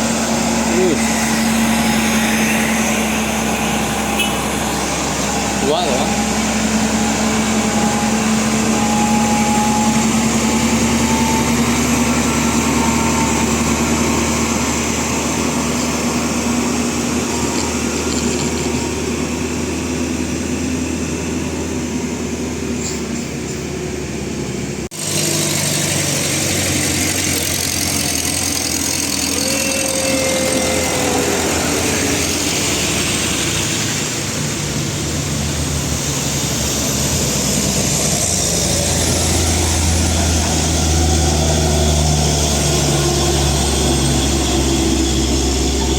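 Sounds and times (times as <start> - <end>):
diesel engines labouring uphill: 0.0 - 45.9
engine running under load: 0.0 - 45.9.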